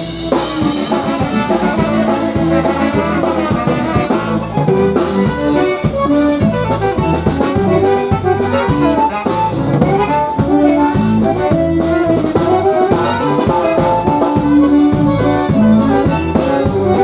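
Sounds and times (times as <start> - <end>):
accordion melody: 0.0 - 17.0
steady drum beat: 0.0 - 17.0.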